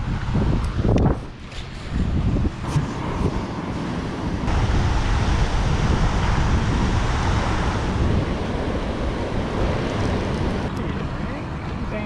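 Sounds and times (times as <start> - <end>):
rushing water: 0.0 - 12.0
wind buffeting microphone: 0.0 - 12.0.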